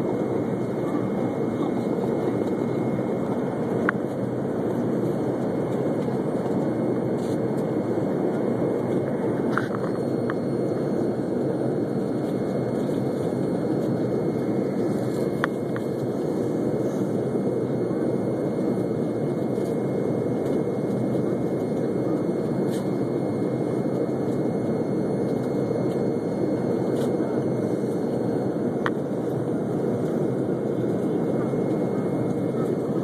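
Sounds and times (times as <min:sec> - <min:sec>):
airliner cabin engine noise: 0:00.0 - 0:33.0.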